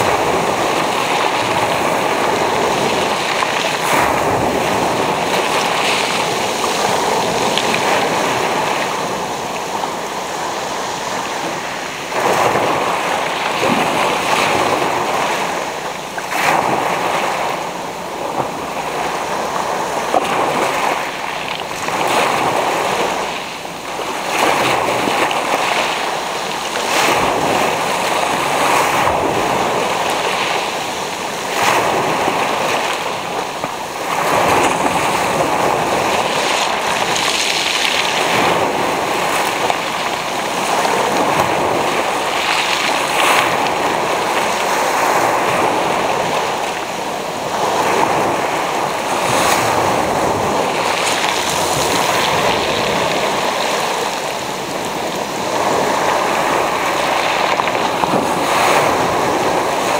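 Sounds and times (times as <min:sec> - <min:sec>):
waves washing over pebbles: 0:00.0 - 0:59.9.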